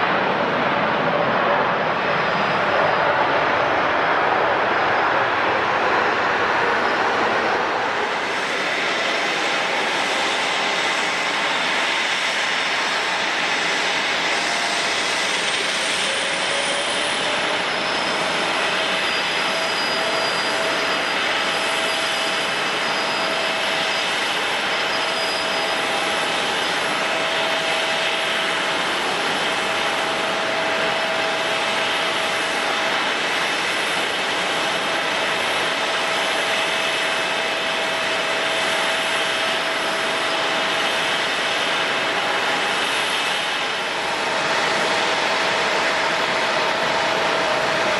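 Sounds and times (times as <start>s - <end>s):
jet airliner engines running: 0.0s - 47.9s.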